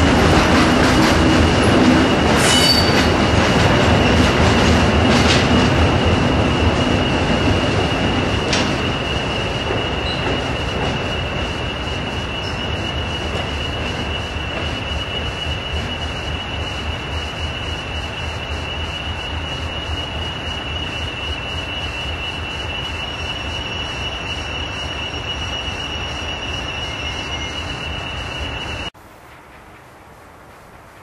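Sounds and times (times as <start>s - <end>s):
train wheels squealing: 0.0s - 28.9s
train rumble: 0.0s - 31.0s.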